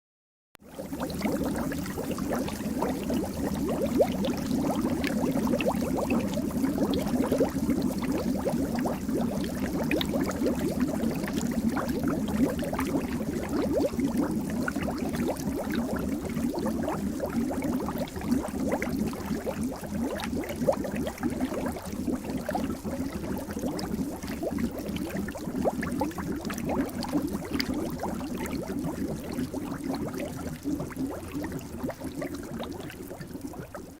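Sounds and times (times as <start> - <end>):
water bubbling: 0.6 - 34.0.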